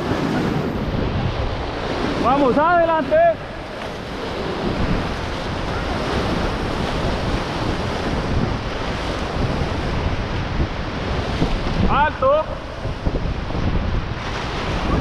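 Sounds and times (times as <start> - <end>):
whitewater rapids rushing: 0.0 - 15.0
wind buffeting microphone: 0.0 - 15.0.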